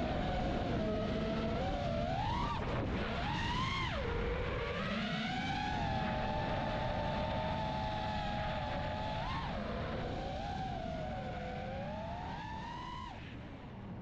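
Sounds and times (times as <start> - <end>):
quadcopter motors whining: 0.0 - 13.2.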